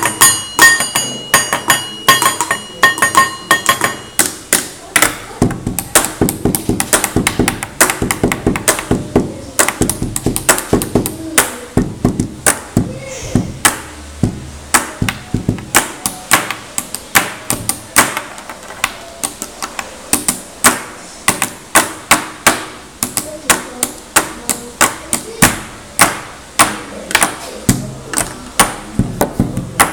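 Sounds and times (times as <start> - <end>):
pens drumming on tabletop: 0.0 - 29.9.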